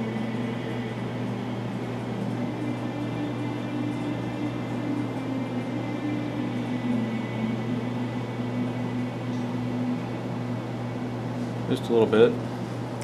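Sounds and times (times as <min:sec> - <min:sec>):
machine hum with wavering drone: 0:00.0 - 0:13.0.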